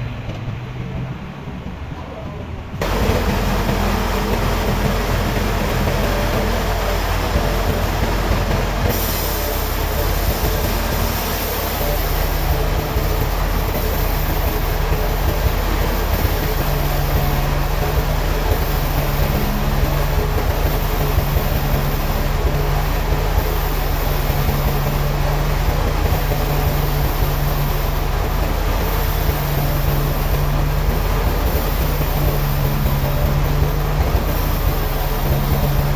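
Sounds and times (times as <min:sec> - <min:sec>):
heavy machinery running: 0:00.0 - 0:35.9
high-pitched hiss: 0:02.8 - 0:35.9.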